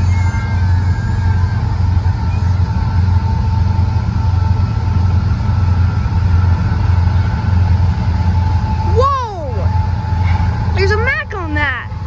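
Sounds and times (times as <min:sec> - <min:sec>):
faint high whine: 0:00.0 - 0:12.0
freight train rumbling past: 0:00.0 - 0:12.0.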